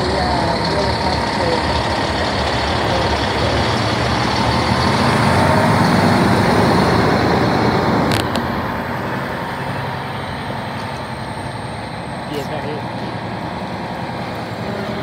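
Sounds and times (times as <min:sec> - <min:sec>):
truck diesel engine passing: 0:00.0 - 0:15.0.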